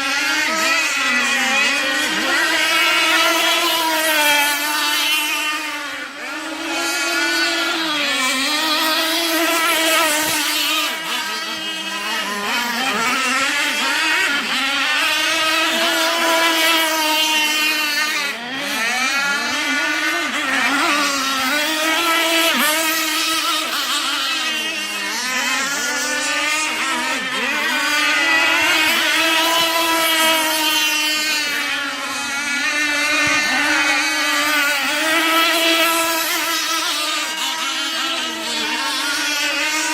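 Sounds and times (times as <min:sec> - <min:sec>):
model boat engine revving: 0:00.0 - 0:39.9.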